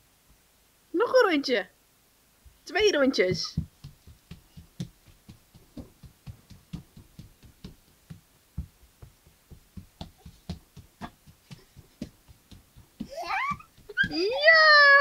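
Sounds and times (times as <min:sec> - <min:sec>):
bare feet running on floor: 0:02.7 - 0:15.0.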